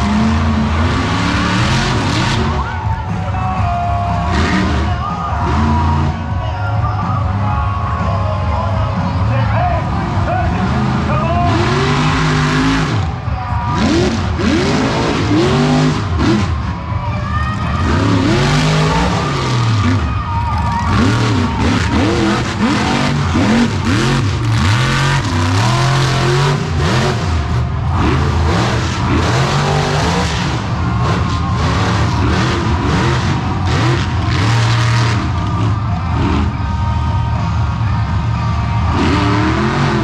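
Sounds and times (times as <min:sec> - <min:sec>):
truck engine revving hard: 0:00.0 - 0:06.4, 0:09.0 - 0:40.0.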